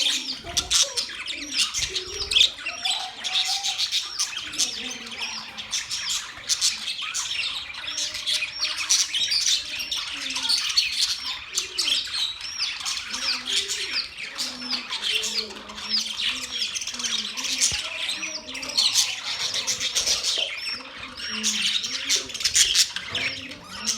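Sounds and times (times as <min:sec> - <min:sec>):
budgerigars chirping and squawking: 0:00.0 - 0:23.9.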